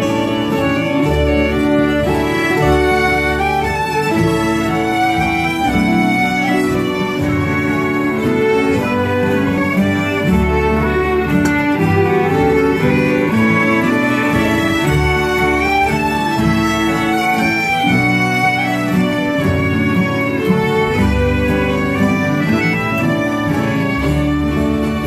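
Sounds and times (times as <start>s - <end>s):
acoustic guitars: 0.0s - 25.0s
concertina: 0.0s - 25.0s
fiddles: 0.0s - 25.0s
mandolin: 0.0s - 25.0s
upright bass: 0.0s - 25.0s.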